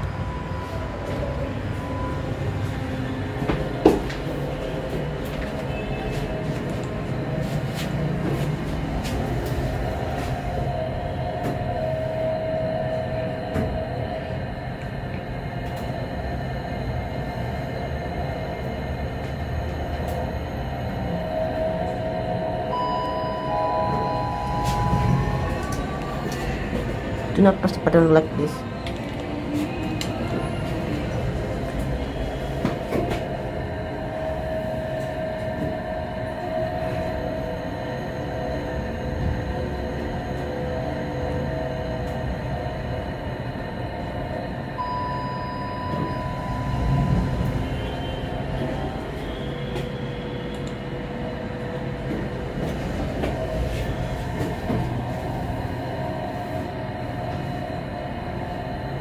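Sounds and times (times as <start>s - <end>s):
elevator rumble and hum: 0.0s - 59.0s
elevator whine: 0.0s - 59.0s
steady tone: 0.0s - 59.0s.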